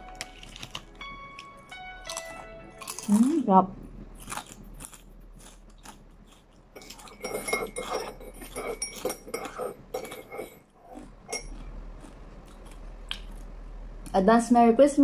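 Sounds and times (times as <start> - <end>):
crunchy chewing of snack: 0.0 - 3.5, 4.1 - 13.6.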